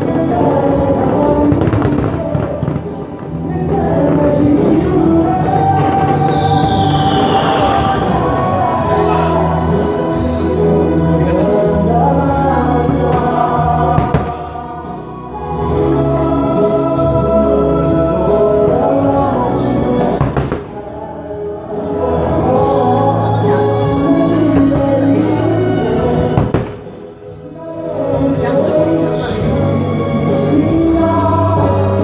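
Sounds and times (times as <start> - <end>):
fireworks bangs: 0.0 - 27.4
choir singing: 0.0 - 32.0.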